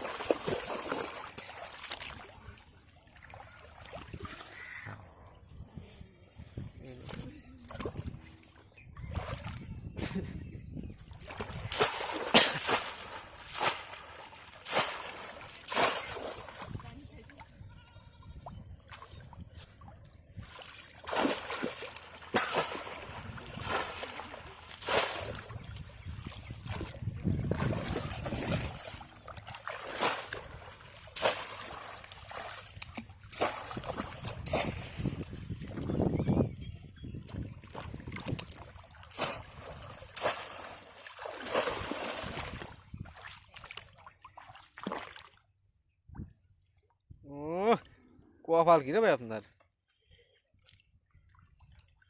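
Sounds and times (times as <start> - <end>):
splashing in shallow water: 0.0 - 45.8, 50.5 - 52.0.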